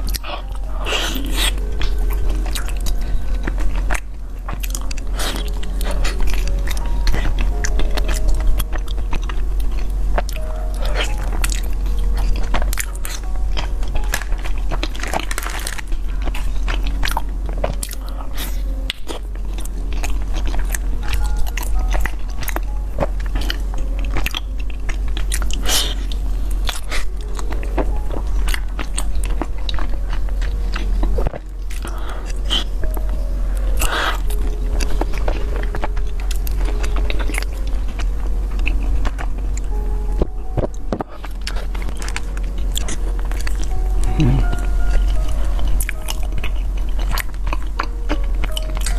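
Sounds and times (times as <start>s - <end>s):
crunchy chewing of food: 0.0s - 48.9s
low hum: 0.0s - 48.9s.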